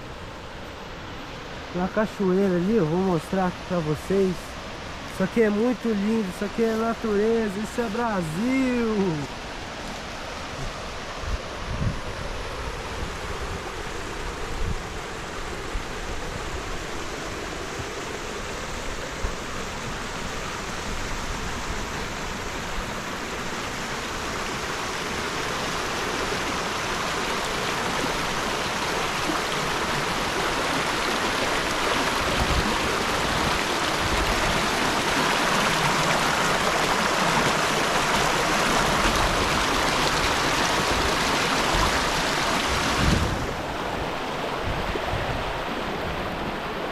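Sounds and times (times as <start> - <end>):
waterfall and stream rushing: 0.0 - 46.9.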